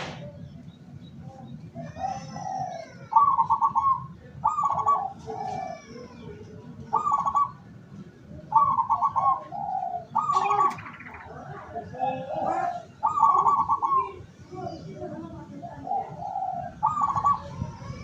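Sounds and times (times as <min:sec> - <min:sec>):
small birds chirping: 0:00.0 - 0:18.0
dove cooing: 0:01.8 - 0:07.8, 0:08.4 - 0:18.0.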